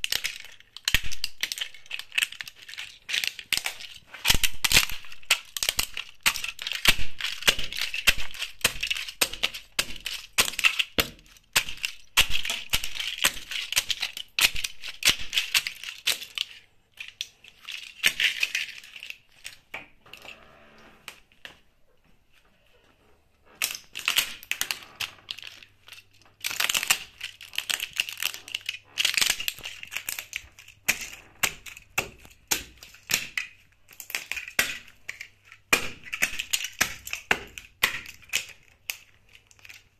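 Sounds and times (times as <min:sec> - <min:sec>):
plastic model cracking underfoot: 0:00.0 - 0:20.3, 0:23.5 - 0:39.9.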